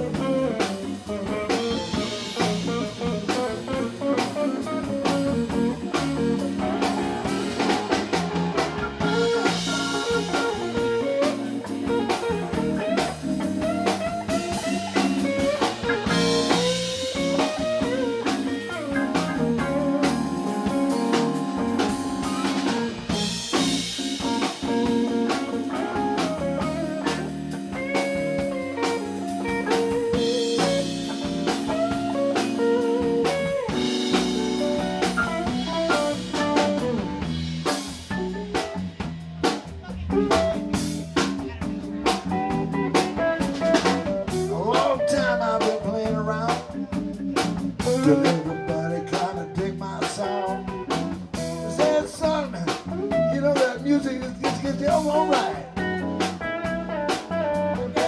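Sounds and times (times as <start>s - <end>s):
bass guitar: 0.0s - 58.0s
drum kit: 0.0s - 58.0s
electric guitar: 0.0s - 58.0s
organ chords: 0.0s - 58.0s.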